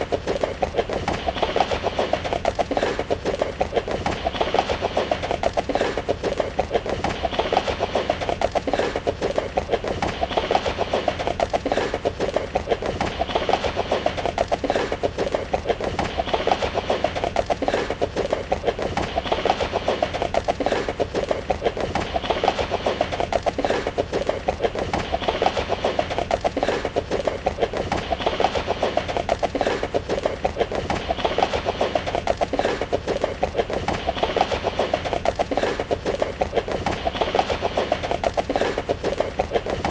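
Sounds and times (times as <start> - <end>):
horse hooves galloping: 0.0 - 39.9.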